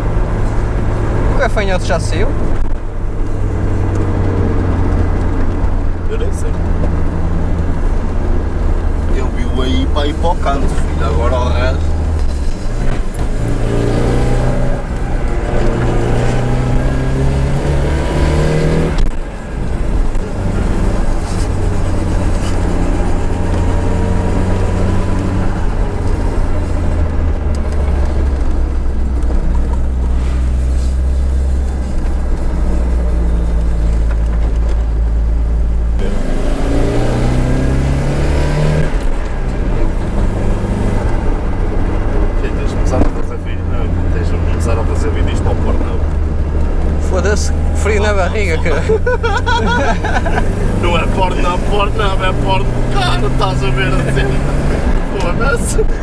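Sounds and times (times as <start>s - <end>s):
turbocharged car engine accelerating: 0.0s - 56.0s.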